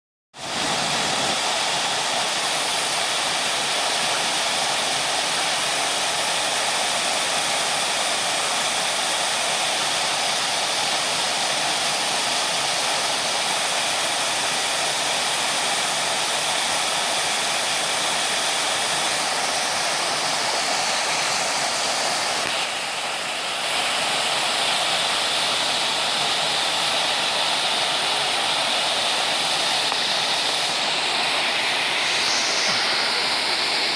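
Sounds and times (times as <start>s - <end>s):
creek water rushing: 0.4s - 33.9s.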